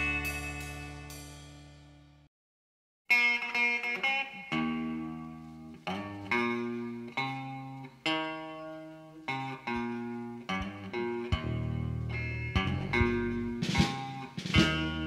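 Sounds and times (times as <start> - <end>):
slow blues guitar: 0.0 - 1.6, 3.1 - 15.0.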